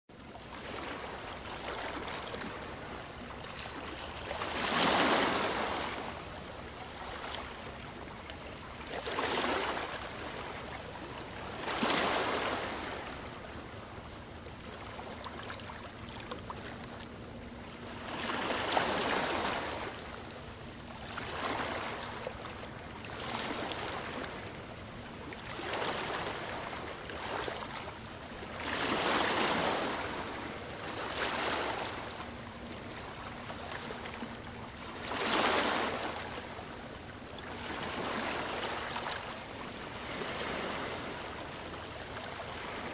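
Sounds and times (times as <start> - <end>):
small waves breaking on shore: 0.1 - 42.9.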